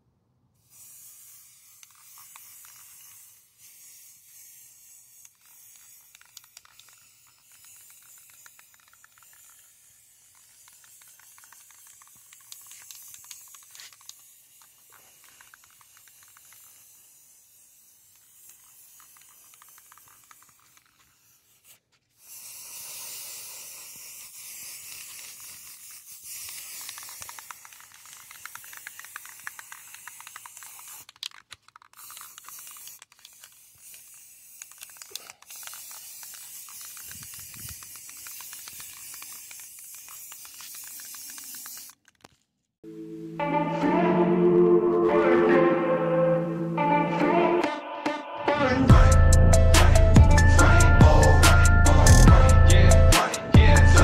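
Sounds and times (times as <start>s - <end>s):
spray-paint can hissing: 0.6s - 42.4s, 49.0s - 54.0s.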